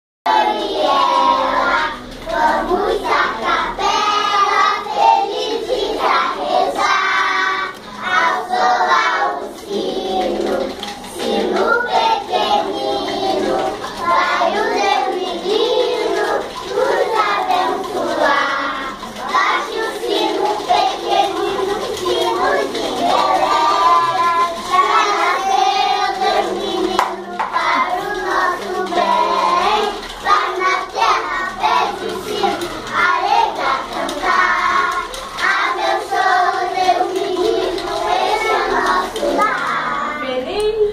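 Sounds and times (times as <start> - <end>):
children singing together: 0.3 - 40.9.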